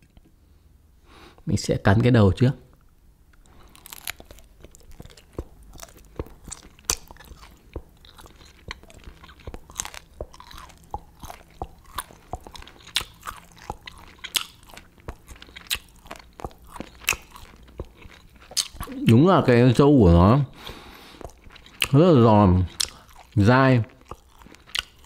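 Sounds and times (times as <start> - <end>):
person crunching dried squid: 3.4 - 19.1, 20.5 - 25.0.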